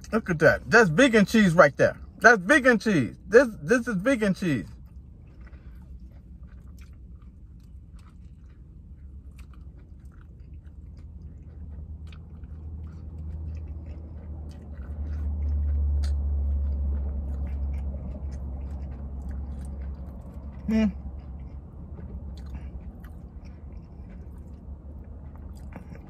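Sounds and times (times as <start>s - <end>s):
person chewing with wet smacks: 0.0s - 26.0s
low rumble: 4.7s - 26.0s.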